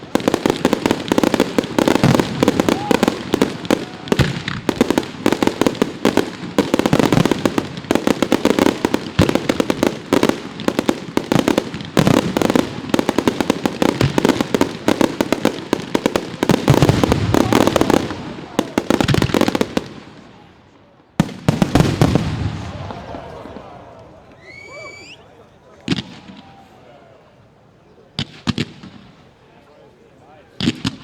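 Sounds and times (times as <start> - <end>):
fireworks cracking and banging: 0.0 - 26.8, 28.1 - 29.5, 30.5 - 31.0.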